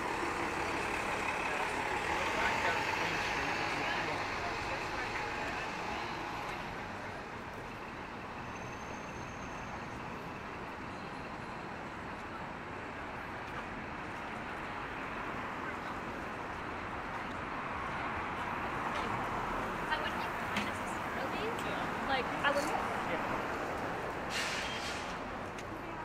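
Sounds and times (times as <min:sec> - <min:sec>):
city traffic hum: 0:00.0 - 0:26.0.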